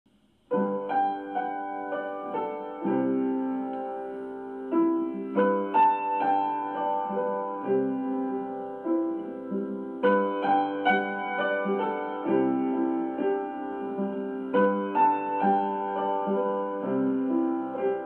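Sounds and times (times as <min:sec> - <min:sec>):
piano chords ringing: 0:00.4 - 0:18.0.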